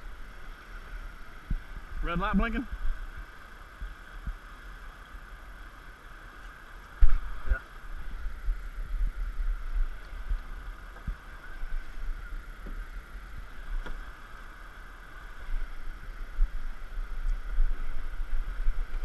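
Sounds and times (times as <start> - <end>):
wind gusting on microphone: 0.0 - 4.5, 6.9 - 19.0
river rapid rushing: 0.0 - 19.0.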